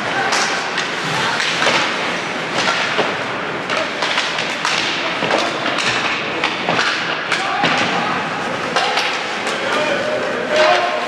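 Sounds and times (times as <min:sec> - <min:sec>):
sticks and puck clacking: 0:00.0 - 0:11.0.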